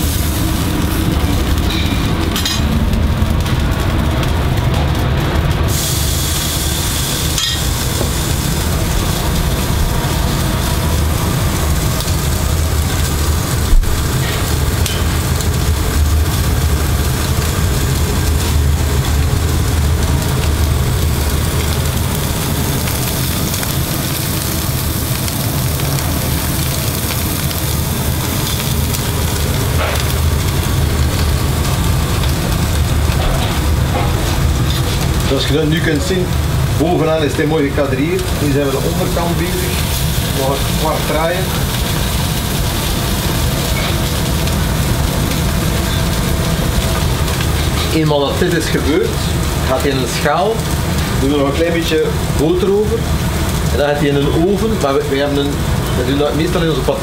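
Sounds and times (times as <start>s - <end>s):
constant low hum: 0.0s - 57.0s
fish sizzling in butter: 0.0s - 57.0s.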